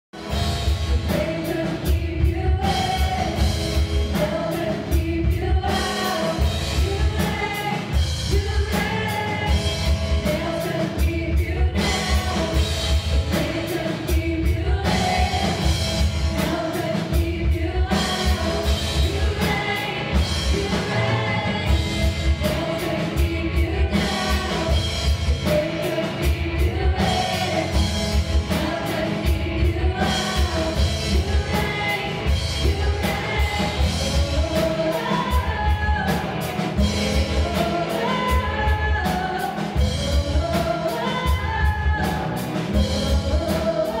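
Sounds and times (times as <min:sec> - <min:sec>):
person singing: 0:00.2 - 0:44.0.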